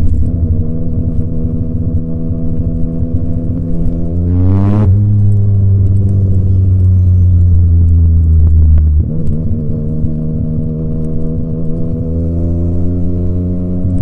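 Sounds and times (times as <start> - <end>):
motorcycle engine at steady revs: 0.0 - 14.0.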